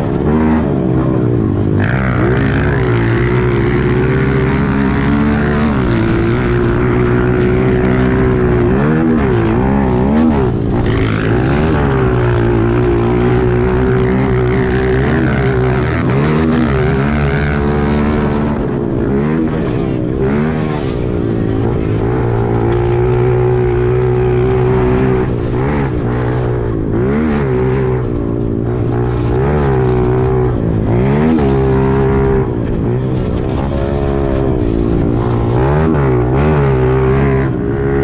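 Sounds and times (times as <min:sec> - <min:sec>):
pit bike engines revving: 0:00.0 - 0:38.0.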